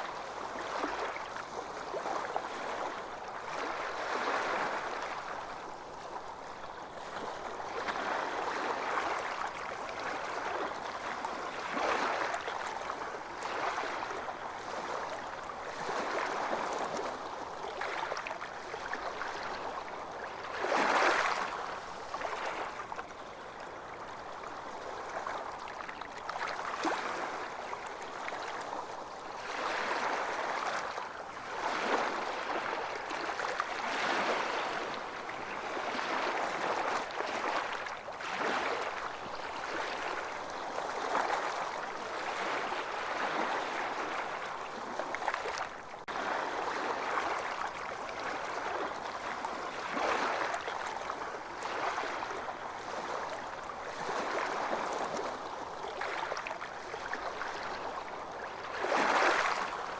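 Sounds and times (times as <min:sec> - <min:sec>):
waves washing onto beach: 0:00.0 - 0:59.9.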